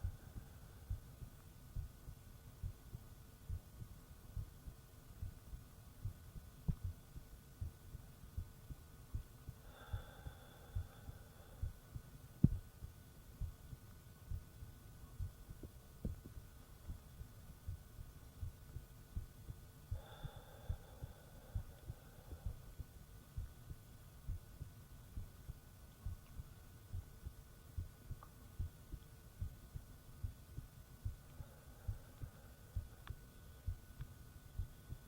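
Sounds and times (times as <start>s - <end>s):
heartbeat thumps: 0.0s - 35.0s.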